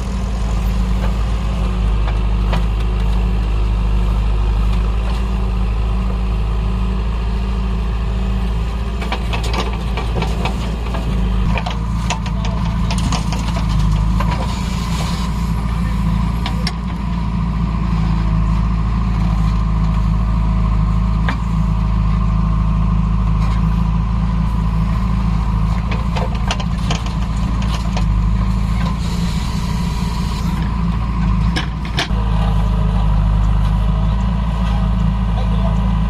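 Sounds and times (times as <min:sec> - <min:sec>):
heavy diesel engines running: 0:00.0 - 0:36.0.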